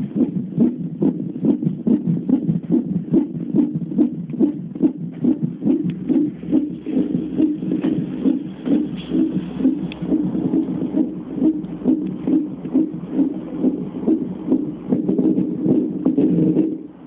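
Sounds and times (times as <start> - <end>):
fetal heartbeat on doppler monitor: 0.0 - 17.0.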